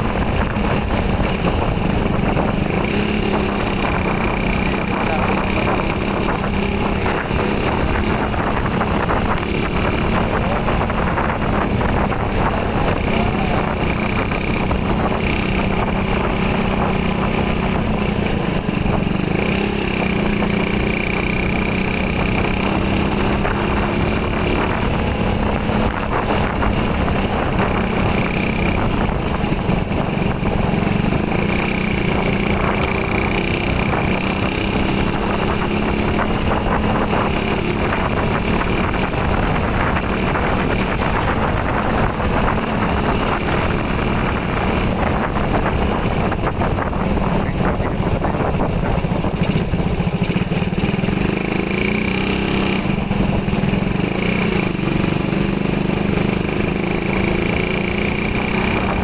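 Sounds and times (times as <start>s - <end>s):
motorcycle engine running: 0.0s - 59.0s
road noise: 0.0s - 59.0s
wind on microphone: 0.0s - 59.0s.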